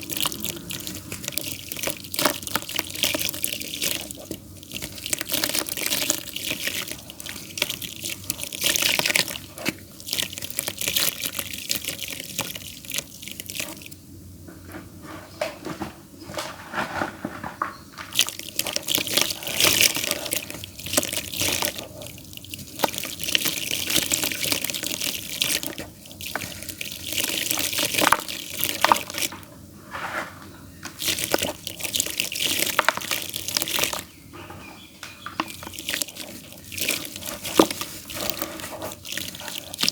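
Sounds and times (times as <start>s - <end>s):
wet clay squeezed by hand: 0.0s - 14.0s, 18.1s - 29.5s, 30.9s - 34.2s, 35.3s - 39.9s.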